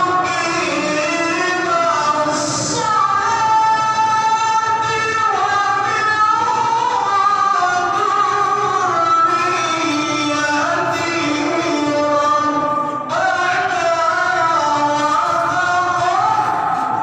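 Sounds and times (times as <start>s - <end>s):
man chanting over loudspeaker: 0.0s - 17.0s.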